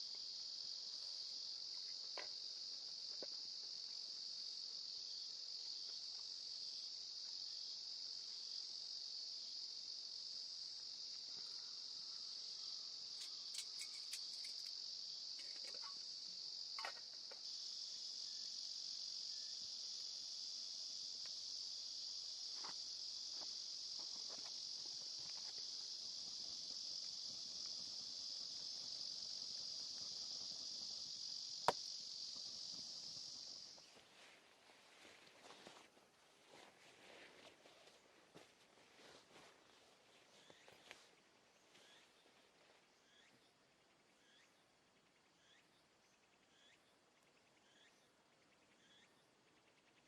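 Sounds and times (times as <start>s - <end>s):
high-pitched insect chorus: 0.0s - 50.0s.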